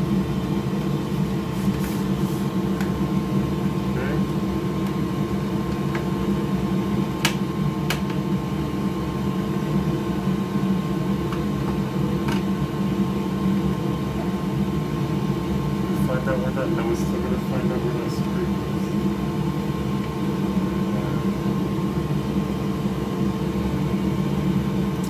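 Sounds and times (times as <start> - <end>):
fan whirring: 0.0 - 25.0.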